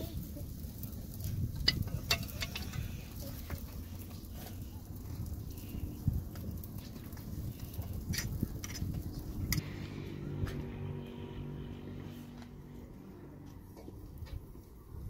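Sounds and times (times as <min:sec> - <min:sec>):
vehicle engine running: 0:01.7 - 0:15.0.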